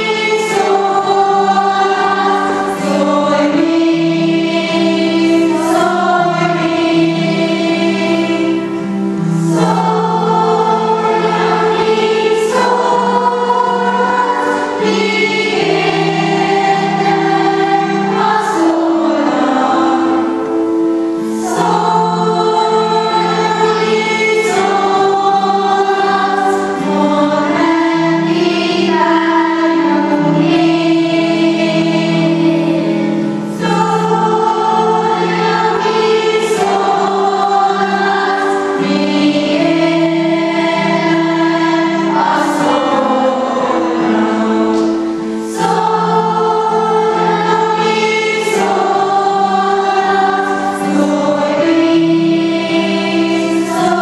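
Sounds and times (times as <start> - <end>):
girls' choir singing: 0.0 - 54.0.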